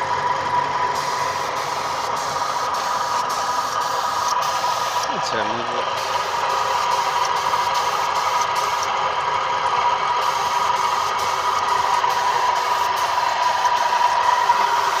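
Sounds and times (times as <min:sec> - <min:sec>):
spray gun hissing: 0:01.0 - 0:05.2, 0:05.9 - 0:08.9, 0:10.2 - 0:15.0.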